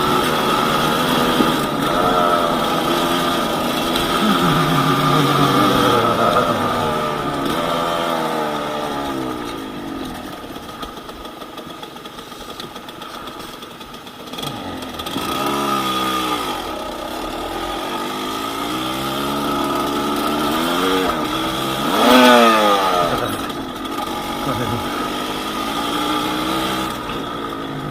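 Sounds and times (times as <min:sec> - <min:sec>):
two-stroke motorcycle engine revving: 0:00.0 - 0:27.9.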